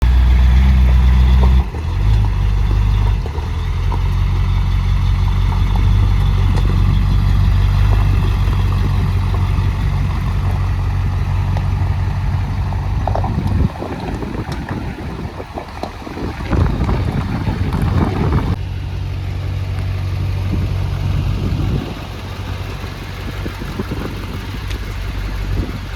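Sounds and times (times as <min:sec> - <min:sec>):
pickup truck engine idling: 0:00.0 - 0:25.9.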